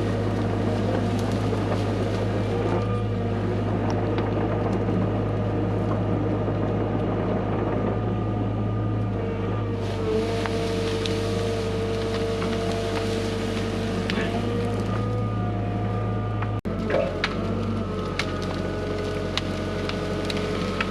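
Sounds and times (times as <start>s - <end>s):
excavator diesel engine running: 0.0s - 20.9s
steady whine: 0.0s - 20.9s.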